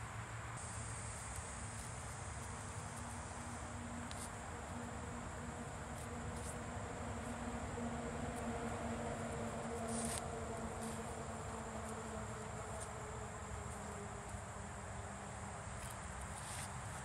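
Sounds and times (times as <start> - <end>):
faint low hum: 0.0 - 17.0
high-pitched insect whine: 0.0 - 17.0.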